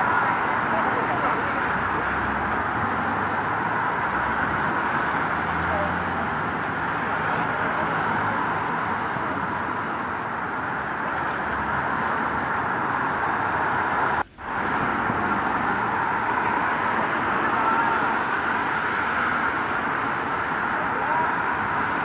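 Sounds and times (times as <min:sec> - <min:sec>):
steady rain: 0:00.0 - 0:22.0
tyres hissing on wet road: 0:00.0 - 0:22.0.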